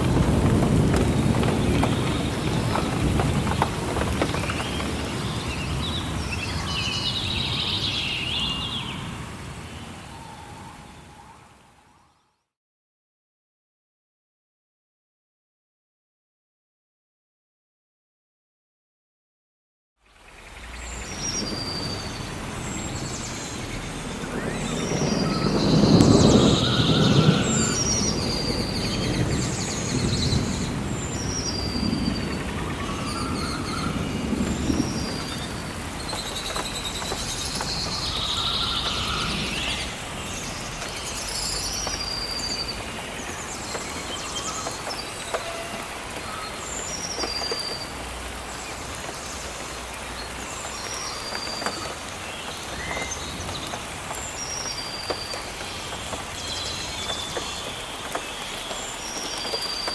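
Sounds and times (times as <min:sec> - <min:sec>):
birds chirping: 0:00.0 - 0:11.1, 0:20.2 - 0:59.9
rain falling in forest: 0:00.0 - 0:12.4, 0:20.0 - 0:59.9.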